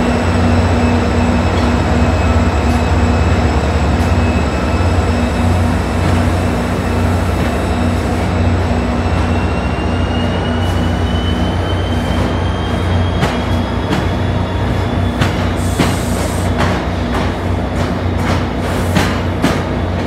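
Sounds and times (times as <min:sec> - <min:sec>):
passenger train rolling past: 0:00.0 - 0:20.0.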